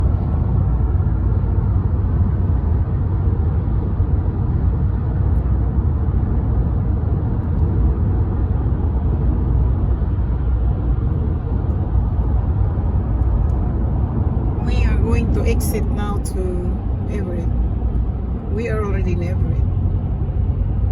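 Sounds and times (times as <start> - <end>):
car road and engine noise: 0.0 - 20.9.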